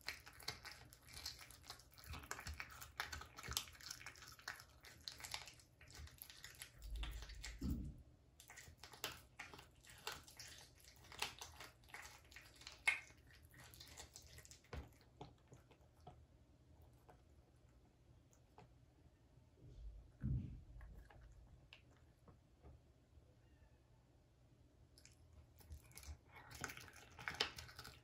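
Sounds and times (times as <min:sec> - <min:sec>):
cat chewing wet crunching: 0:00.0 - 0:07.7, 0:08.4 - 0:19.0, 0:20.6 - 0:22.8, 0:24.9 - 0:28.0.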